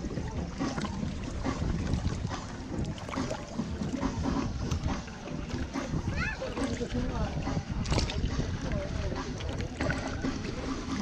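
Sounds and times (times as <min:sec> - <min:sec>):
seawater lapping and splashing: 0:00.0 - 0:11.0
wind buffeting microphone: 0:00.0 - 0:11.0.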